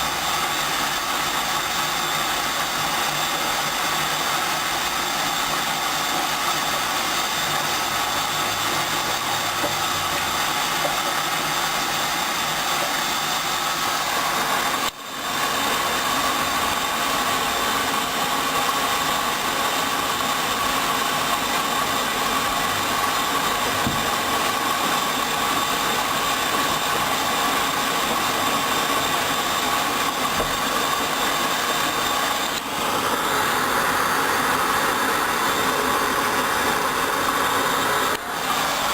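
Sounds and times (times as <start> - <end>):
washing machine rushing hiss: 0.0 - 38.9.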